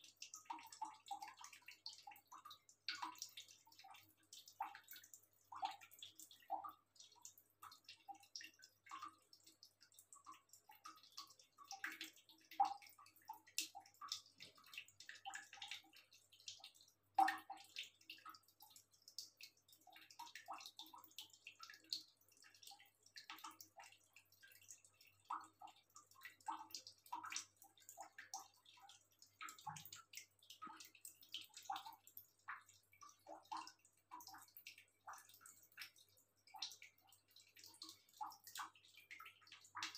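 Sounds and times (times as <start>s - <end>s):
cat lapping water: 0.0s - 39.9s.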